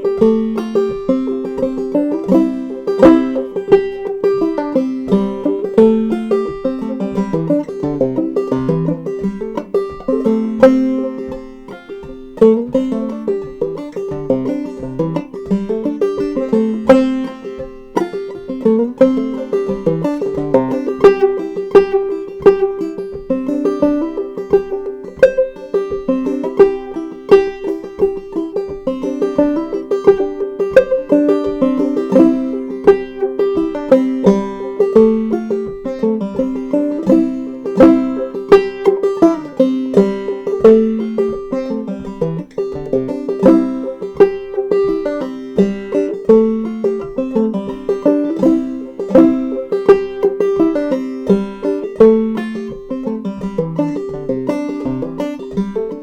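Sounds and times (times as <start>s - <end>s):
clawhammer banjo playing: 0.0s - 56.0s.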